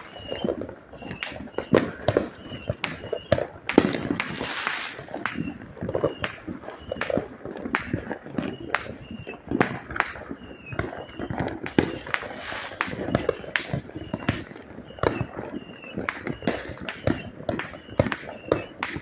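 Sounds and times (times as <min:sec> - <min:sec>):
fireworks cracking and banging: 0:00.0 - 0:19.0.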